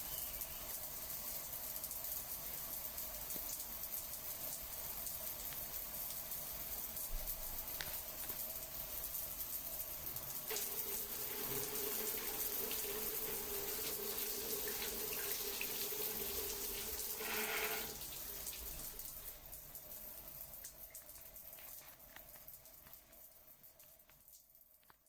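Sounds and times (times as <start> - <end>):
tap water running into sink: 0.0 - 25.0.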